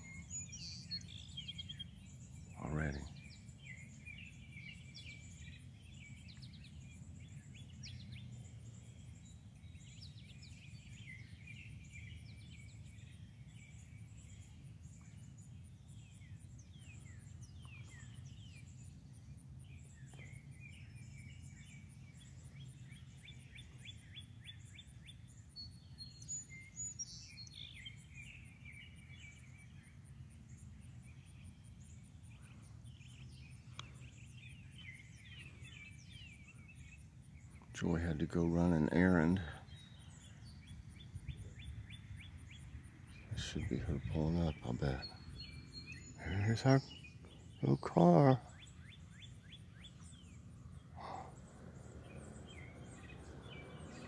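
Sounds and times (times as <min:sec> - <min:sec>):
insect trill: 0:00.0 - 0:54.0
songbirds chirping and singing: 0:00.0 - 0:54.0.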